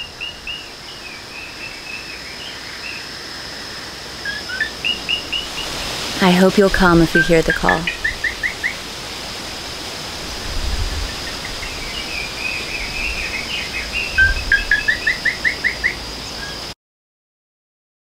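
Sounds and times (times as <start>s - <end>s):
songbirds chirping: 0.0s - 10.4s, 11.0s - 16.7s.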